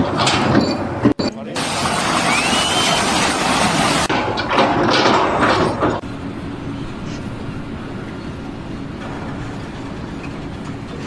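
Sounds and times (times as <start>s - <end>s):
low mechanical rumble: 0.0s - 11.0s
loud noisy sound: 1.6s - 11.0s.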